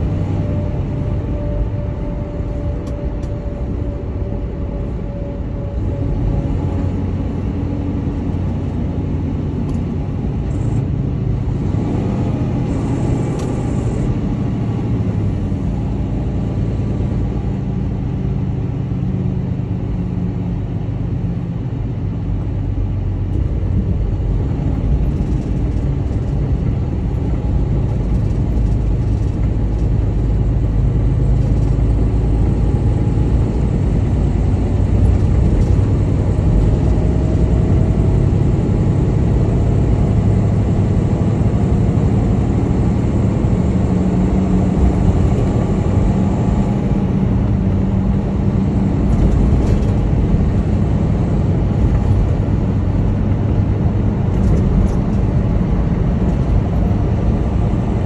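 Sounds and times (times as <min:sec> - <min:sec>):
road rumble: 0:00.0 - 0:58.0
truck diesel engine drone: 0:00.0 - 0:58.0.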